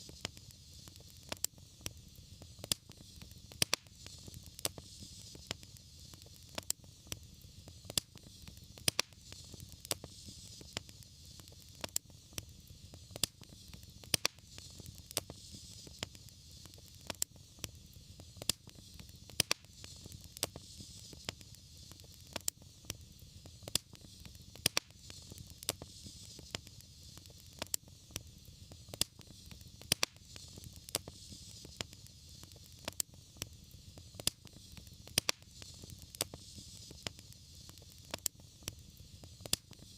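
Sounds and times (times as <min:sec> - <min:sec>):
flame hiss and rumble: 0:00.0 - 0:39.9
sharp pops from fire: 0:00.0 - 0:39.9
wood fire crackling: 0:00.0 - 0:39.9.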